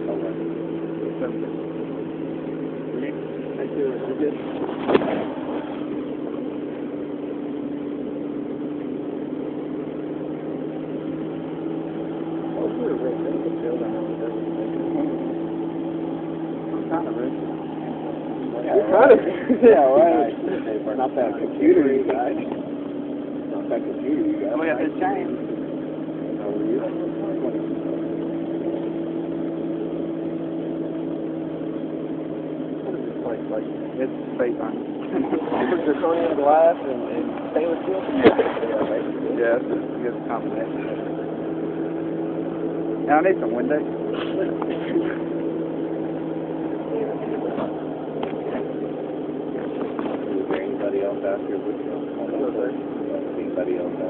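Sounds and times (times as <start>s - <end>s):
steady motor hum: 0.0s - 54.0s.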